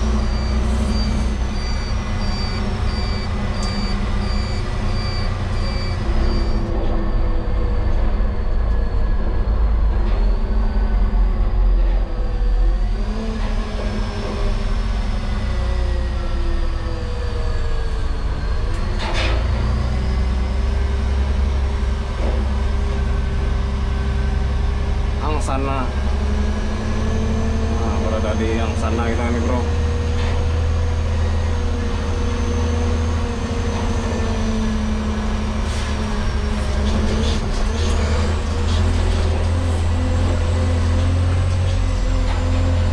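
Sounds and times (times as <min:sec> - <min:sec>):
truck engine rumbling: 0:00.0 - 0:42.9.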